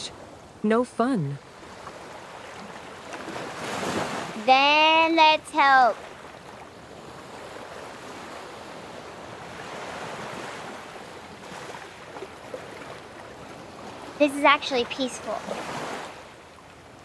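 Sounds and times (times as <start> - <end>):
ocean surf waves: 0.0 - 17.0.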